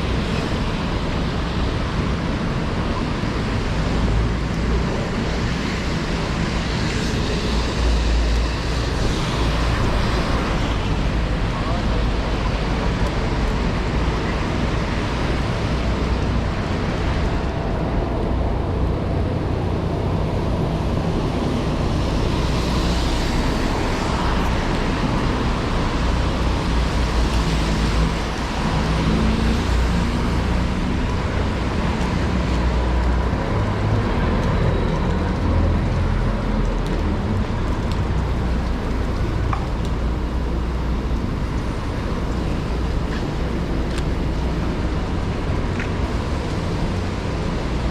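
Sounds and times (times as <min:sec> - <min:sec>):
cars passing on wet roads: 0:00.0 - 0:47.9
heavy rain: 0:00.0 - 0:47.9.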